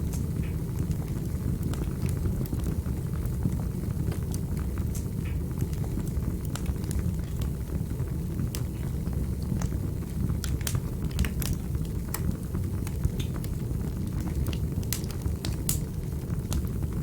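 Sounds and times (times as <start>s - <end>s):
fire crackling: 0.0s - 17.0s
low rumble of flames: 0.0s - 17.0s.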